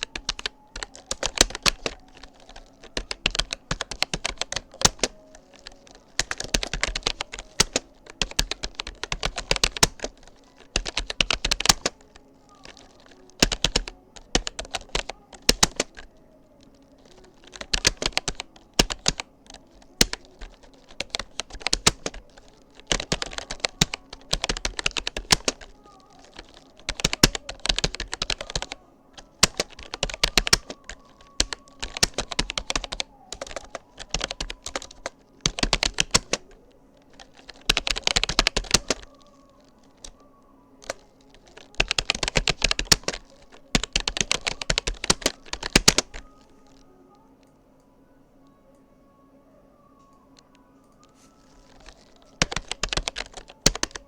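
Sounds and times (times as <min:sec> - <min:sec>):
keyboard typing clicks: 0:00.0 - 0:46.8, 0:50.0 - 0:54.0.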